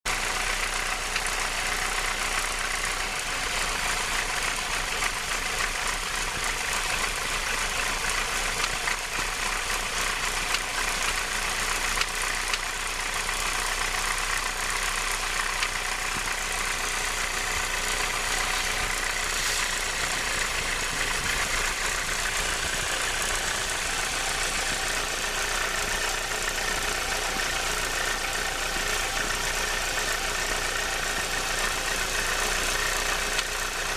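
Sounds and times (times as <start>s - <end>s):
car engine idling: 0.1s - 33.9s
strange engine noise: 0.1s - 33.9s.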